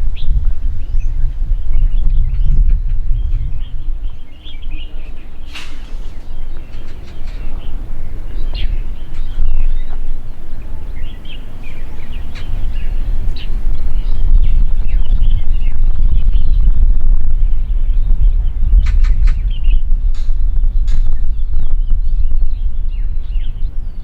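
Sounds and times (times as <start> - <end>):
birds chirping: 0.0 - 24.0
loud low rumble: 0.0 - 24.0.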